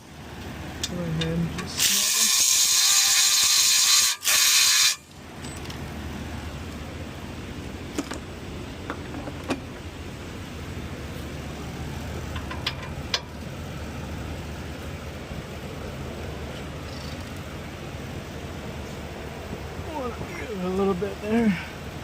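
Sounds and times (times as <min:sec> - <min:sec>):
low shop hum: 0:00.0 - 0:22.0.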